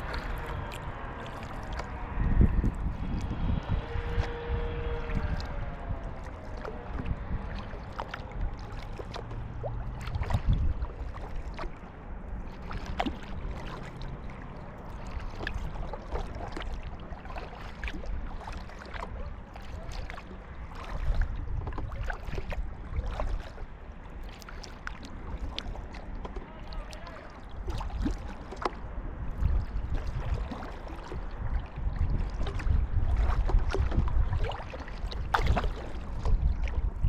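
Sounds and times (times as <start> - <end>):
low rumble of moving water: 0.0 - 37.0
paddle splashing and dripping: 0.0 - 37.0.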